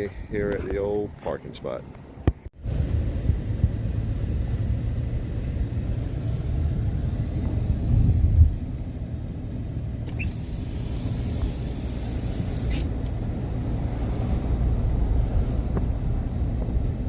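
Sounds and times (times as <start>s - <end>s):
car driving low rumble: 0.0s - 17.0s.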